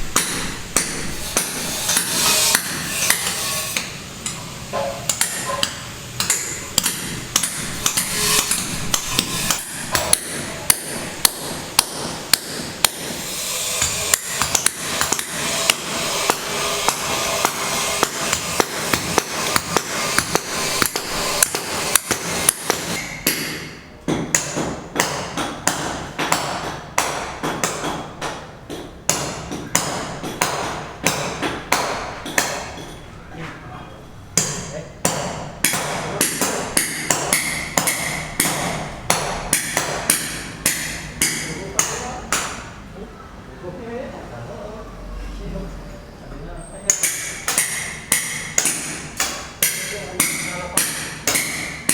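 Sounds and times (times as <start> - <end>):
sharp repeated knocks: 0.0 - 33.0, 34.4 - 42.7, 46.9 - 51.9
steady noisy background: 0.0 - 51.9.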